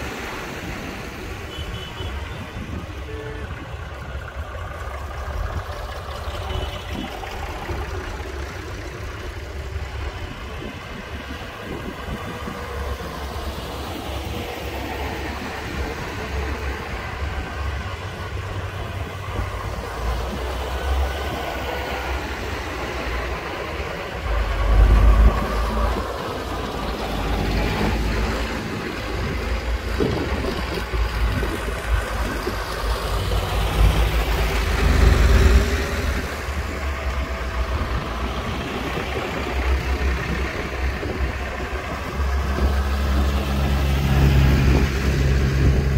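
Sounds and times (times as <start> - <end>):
tractor diesel engines rumbling: 0.0 - 45.9.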